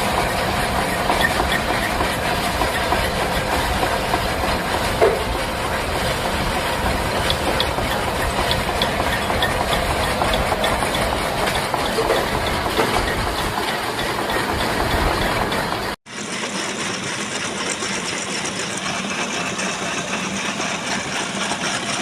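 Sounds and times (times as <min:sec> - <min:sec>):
metal lathe running: 0:00.0 - 0:22.0.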